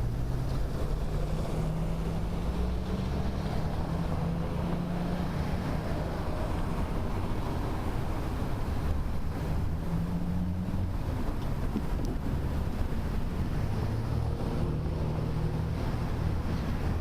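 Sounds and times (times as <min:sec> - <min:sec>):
low hum of traffic: 0:00.0 - 0:17.0
wind on microphone: 0:00.0 - 0:17.0.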